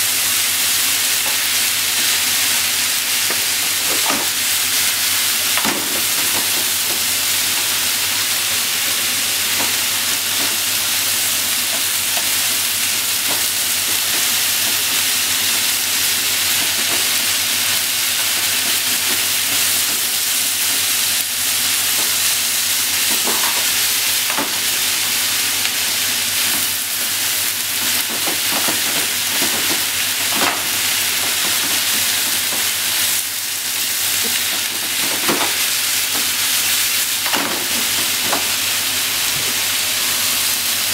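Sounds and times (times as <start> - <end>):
stir-fry sizzling in a frying pan: 0.0 - 40.9.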